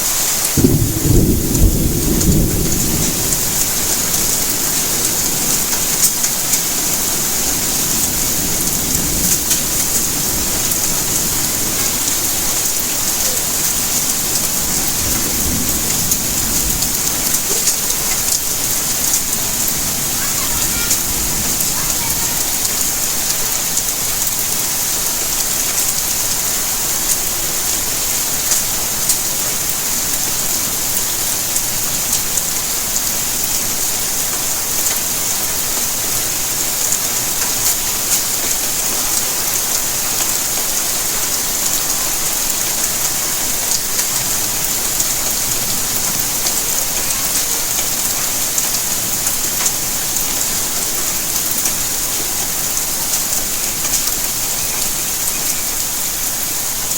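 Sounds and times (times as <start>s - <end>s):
steady rainfall: 0.0s - 56.9s
raindrop ticks: 0.2s - 55.9s.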